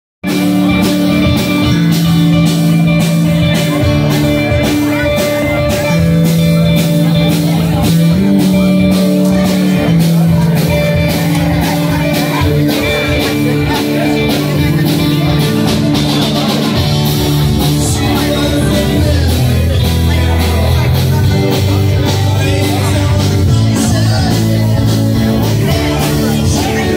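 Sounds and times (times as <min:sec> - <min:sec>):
blues band playing: 0:00.2 - 0:26.9
crowd talking: 0:00.2 - 0:26.9.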